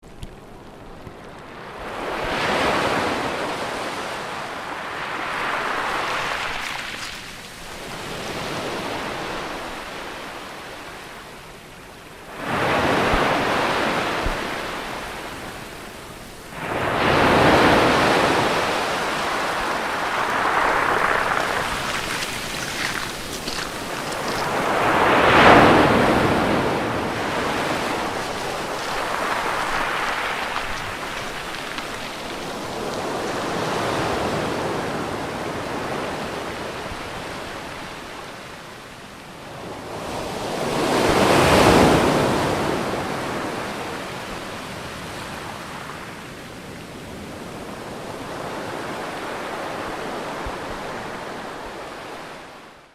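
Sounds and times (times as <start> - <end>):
ocean waves crashing on shore: 1.4 - 52.9.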